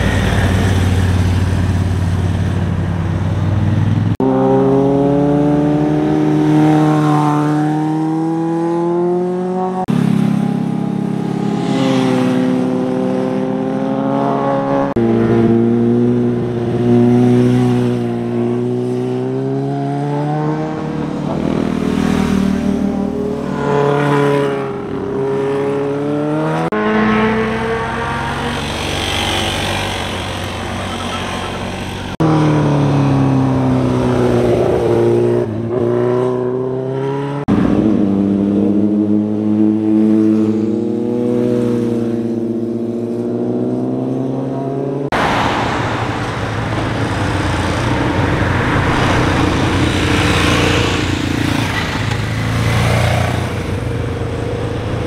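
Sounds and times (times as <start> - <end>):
motorcycle engines accelerating: 0.0 - 55.0.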